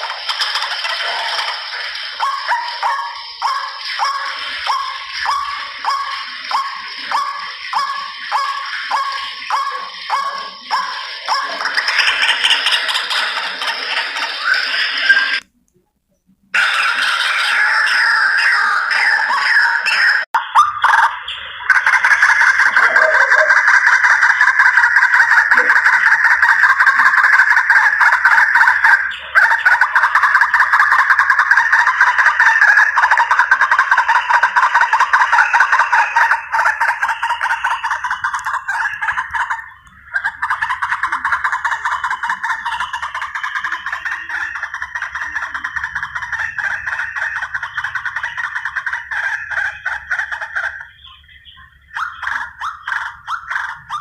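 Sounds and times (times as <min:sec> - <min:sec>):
waterhen calling harsh notes: 0:00.0 - 0:15.4, 0:16.6 - 0:54.0.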